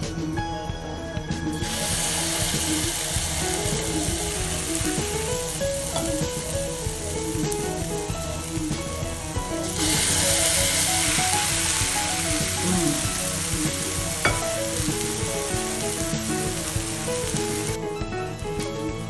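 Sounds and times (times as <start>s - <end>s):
batter sizzling in hot oil: 1.5s - 18.9s.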